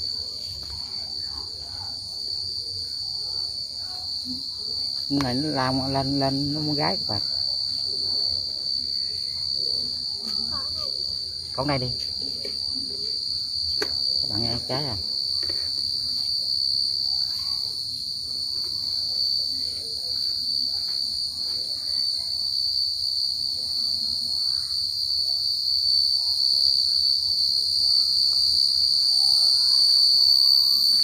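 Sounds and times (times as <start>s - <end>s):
cricket trilling: 0.0s - 31.0s.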